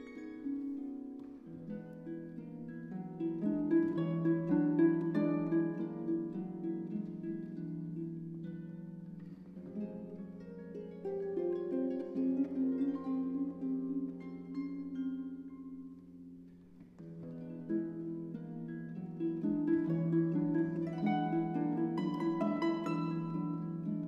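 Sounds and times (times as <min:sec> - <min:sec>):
harp played solo: 0:00.0 - 0:24.0.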